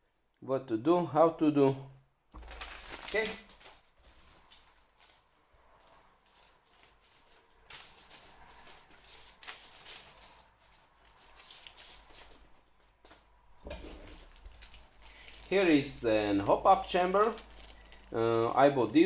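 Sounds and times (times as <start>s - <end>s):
packaging rustling: 2.4s - 19.0s.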